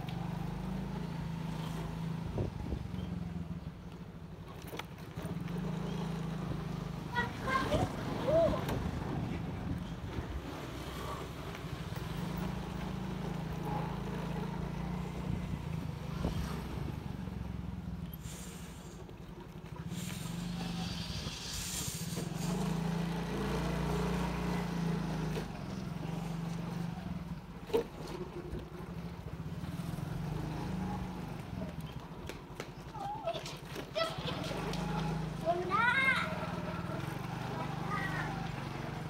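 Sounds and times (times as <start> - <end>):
motor scooter engines: 0.0 - 39.0.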